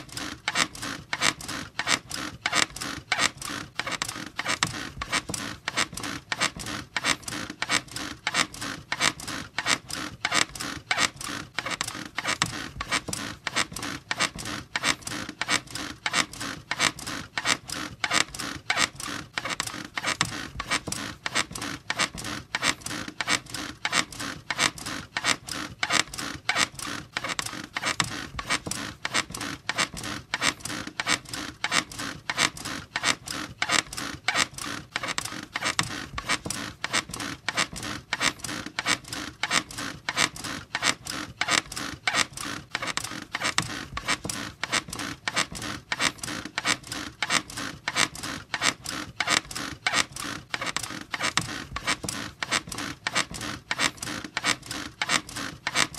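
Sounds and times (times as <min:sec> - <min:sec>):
squeaky bed creaking: 0:00.0 - 0:55.9.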